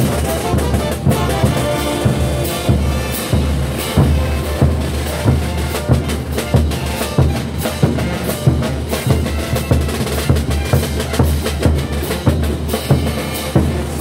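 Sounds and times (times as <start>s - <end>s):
bass drums beating: 0.0s - 14.0s
brass band playing: 0.0s - 14.0s
cymbals clashing: 0.0s - 14.0s
snare drums: 0.0s - 14.0s.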